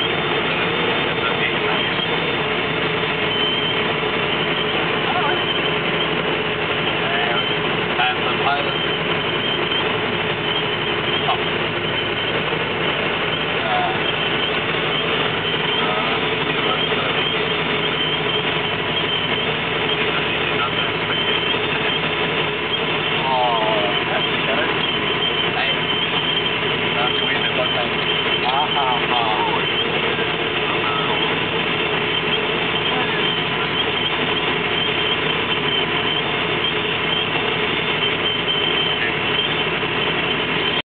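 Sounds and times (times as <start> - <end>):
road noise: 0.0 - 40.8
truck engine drone: 0.0 - 40.9.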